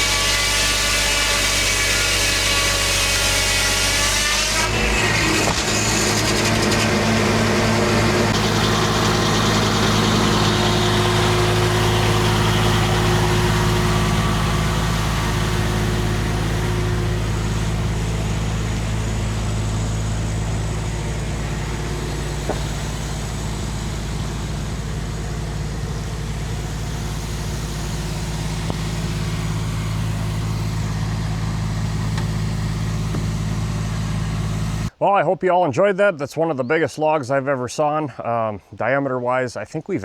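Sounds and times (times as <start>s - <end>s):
sawmill engine idling: 0.0s - 35.0s.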